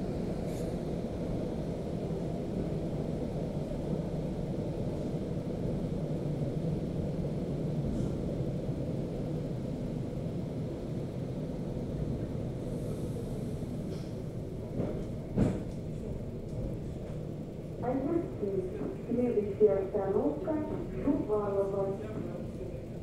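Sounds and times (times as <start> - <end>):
train rumble from inside carriage: 0.0 - 23.0.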